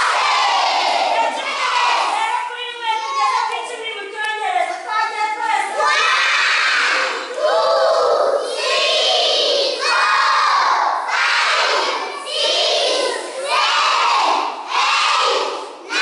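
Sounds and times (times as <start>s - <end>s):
children shouting together: 0.0s - 2.2s, 2.8s - 3.6s, 5.6s - 16.0s.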